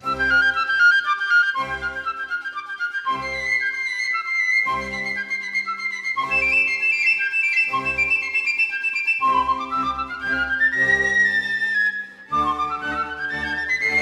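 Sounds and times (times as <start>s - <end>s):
flute-like melody: 0.0s - 14.0s.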